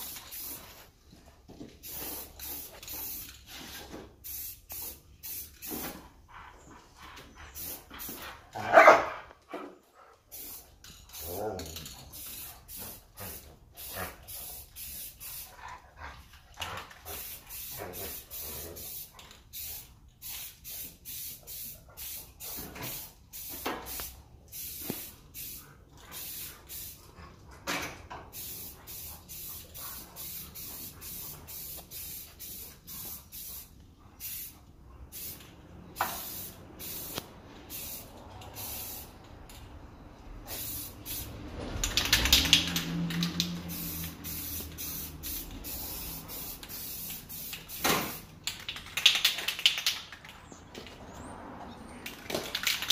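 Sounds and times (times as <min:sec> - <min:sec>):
spray paint can hissing: 0:00.0 - 0:00.9, 0:01.7 - 0:06.0, 0:07.5 - 0:08.2, 0:10.3 - 0:15.5, 0:17.0 - 0:27.0, 0:28.3 - 0:39.2, 0:40.4 - 0:50.2, 0:52.0 - 0:52.9.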